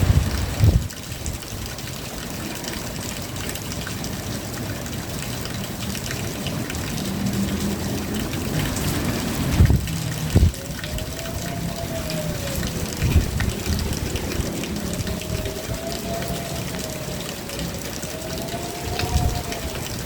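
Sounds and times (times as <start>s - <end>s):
rain falling: 0.0s - 20.0s
drops ticking on a surface: 0.3s - 20.0s.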